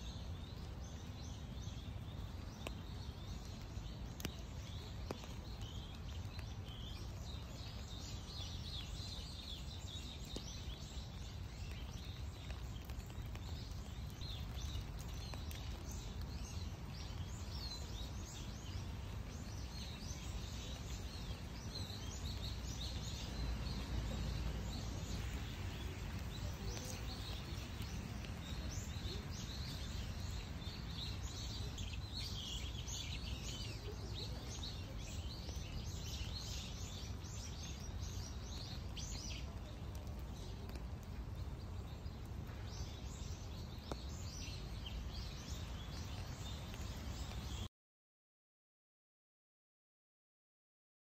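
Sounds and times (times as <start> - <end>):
small birds chirping: 0.0 - 47.7.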